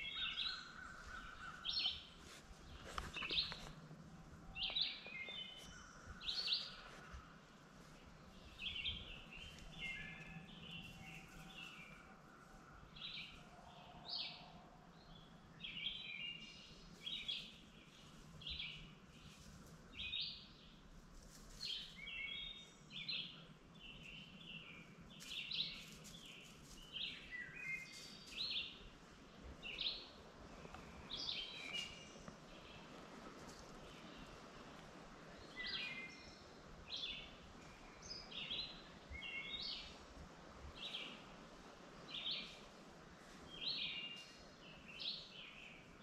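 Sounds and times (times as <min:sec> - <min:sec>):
faint low hum: 0:00.0 - 0:46.0
songbirds chirping: 0:00.0 - 0:46.0.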